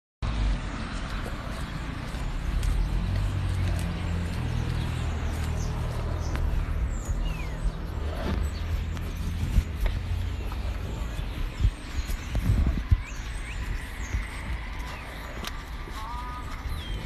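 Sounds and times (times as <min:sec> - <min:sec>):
low street rumble: 0:00.2 - 0:17.0
bird chirps: 0:01.8 - 0:17.0.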